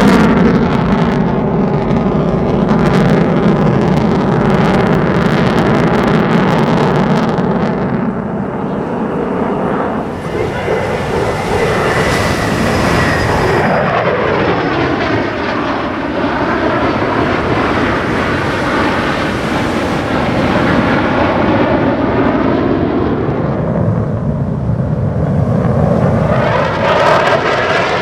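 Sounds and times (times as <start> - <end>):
fighter jets roaring past: 0.0 - 28.0
high jet whine: 0.0 - 28.0.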